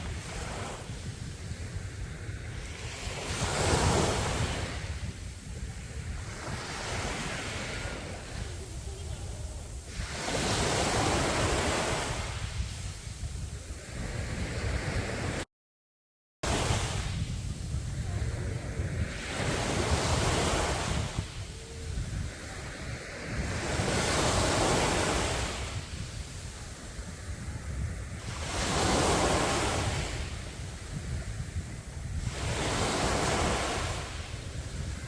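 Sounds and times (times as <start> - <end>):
wind on microphone: 0.0 - 15.4, 16.4 - 35.0
waves breaking on a beach: 0.0 - 15.5, 16.4 - 35.0.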